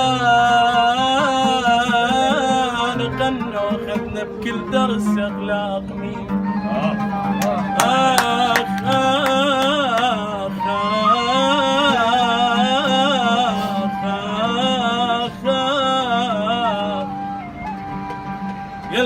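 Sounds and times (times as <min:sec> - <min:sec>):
ornamented melody: 0:00.0 - 0:19.0.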